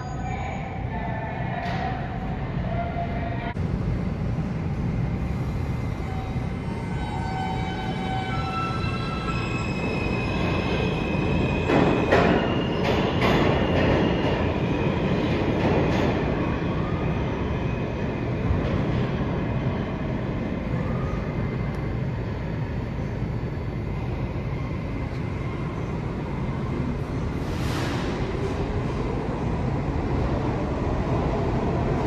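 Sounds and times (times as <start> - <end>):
subway train rumbling: 0.0 - 32.0
train high whine: 0.0 - 32.0.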